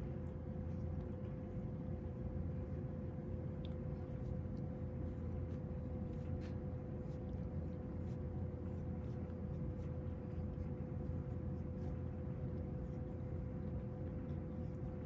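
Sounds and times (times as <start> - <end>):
appliance humming: 0.0 - 15.0
cat licking its paw: 0.0 - 15.0.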